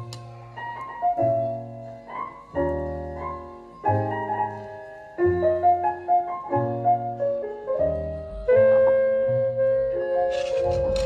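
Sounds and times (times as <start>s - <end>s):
piano playing slow chords: 0.0s - 11.0s.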